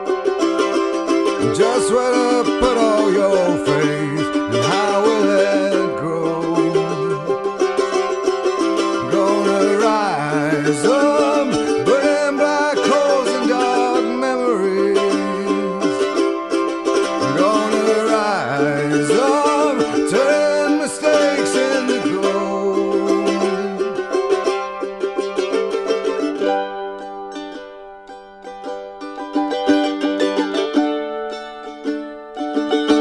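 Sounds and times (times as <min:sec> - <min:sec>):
acoustic song with plucked strings: 0:00.0 - 0:33.0.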